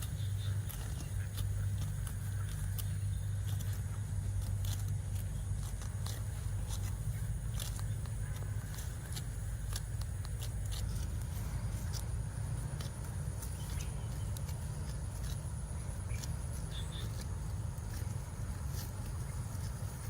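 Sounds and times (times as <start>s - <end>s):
cattle hooves on a road: 0.0s - 20.0s
steady low rumble: 0.0s - 20.0s.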